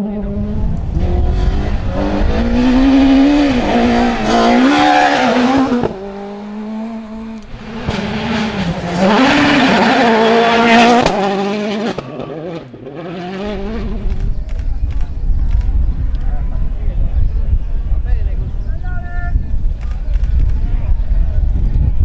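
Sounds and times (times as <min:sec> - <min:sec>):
rally car engines at full throttle: 0:00.0 - 0:18.7.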